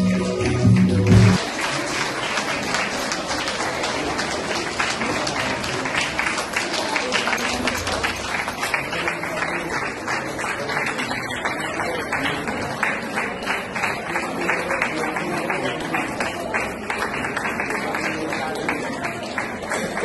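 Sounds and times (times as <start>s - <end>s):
audience applause: 0.0s - 20.0s.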